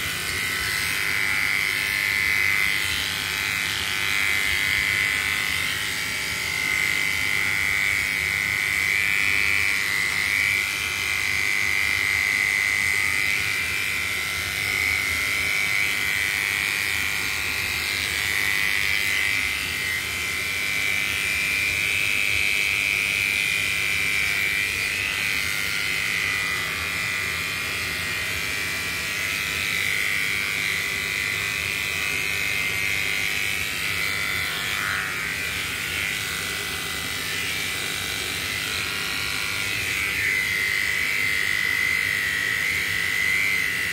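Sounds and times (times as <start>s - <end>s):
electric hair clipper buzzing: 0.0s - 43.9s.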